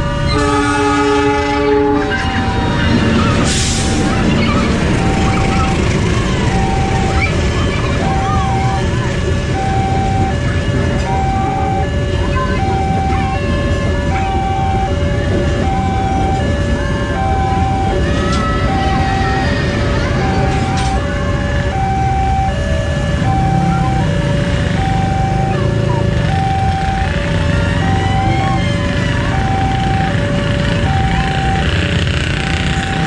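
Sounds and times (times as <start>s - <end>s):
level crossing alarm two tones: 0.0s - 33.0s
motorcycle and car engines: 0.0s - 33.0s.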